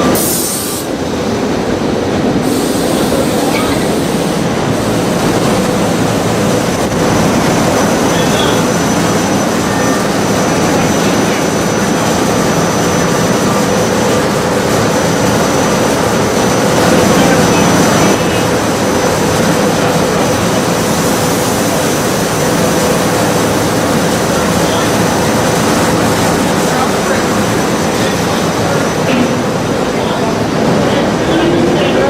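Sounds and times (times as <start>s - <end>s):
electric train passing: 0.0s - 32.0s.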